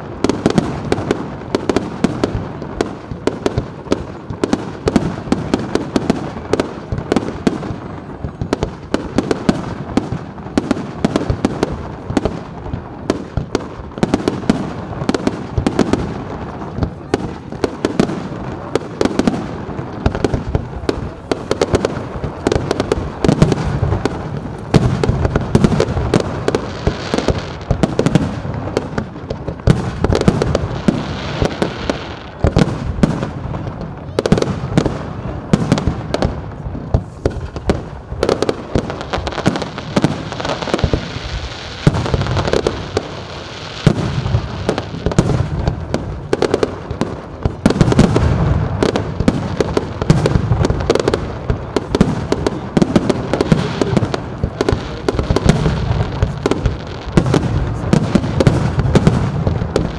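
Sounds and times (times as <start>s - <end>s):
fireworks bursts and crackles: 0.0s - 59.9s.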